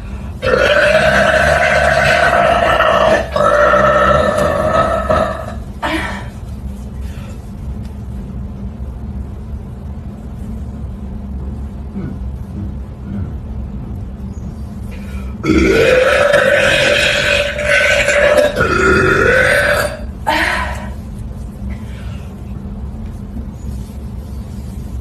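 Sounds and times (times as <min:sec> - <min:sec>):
low steady background hum: 0:00.0 - 0:25.0.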